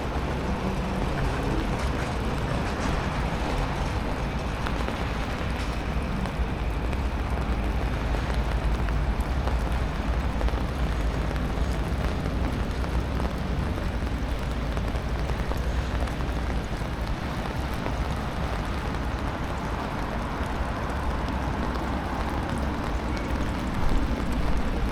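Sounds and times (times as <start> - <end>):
low traffic rumble: 0.0 - 24.9
rain falling on street: 0.0 - 24.9.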